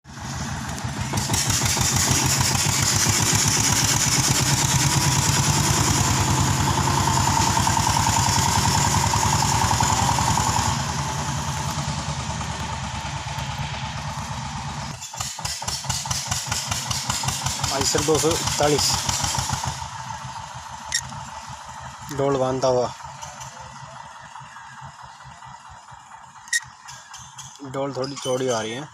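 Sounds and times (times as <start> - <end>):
tractor diesel engine chugging: 0.1 - 28.9.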